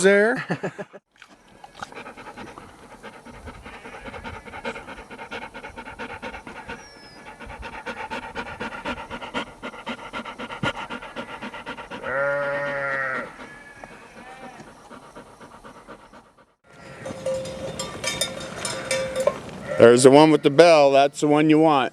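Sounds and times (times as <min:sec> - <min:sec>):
dog panting: 0:01.8 - 0:19.3.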